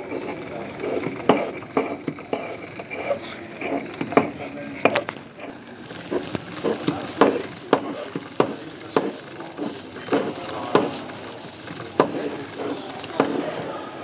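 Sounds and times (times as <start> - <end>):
indistinct voices murmuring: 0.0 - 14.0.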